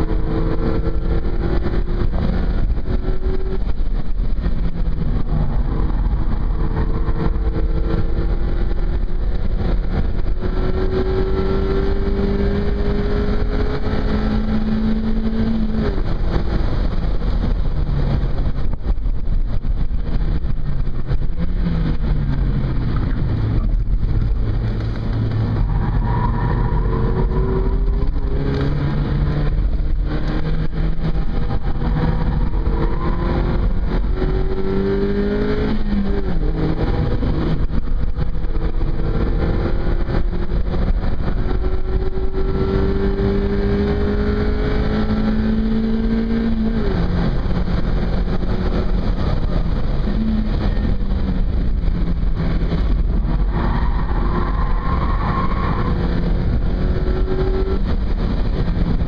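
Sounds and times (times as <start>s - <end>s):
car engine revving: 0.0s - 59.0s
wind and road noise: 0.0s - 59.0s.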